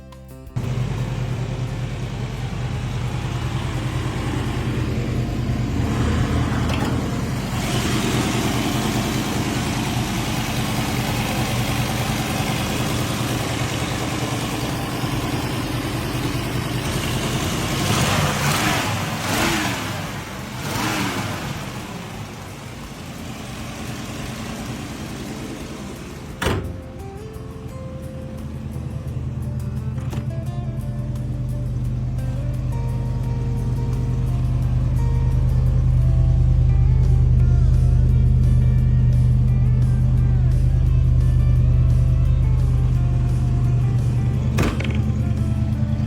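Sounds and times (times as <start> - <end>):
car engine running and revving: 0.5 - 46.0.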